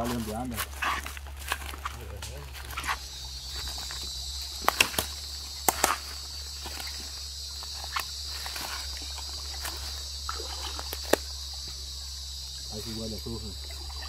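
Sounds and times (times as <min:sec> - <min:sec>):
twigs snapping: 0:00.0 - 0:12.5
footsteps crunching dry leaves: 0:00.0 - 0:14.0
insects buzzing: 0:00.0 - 0:14.0.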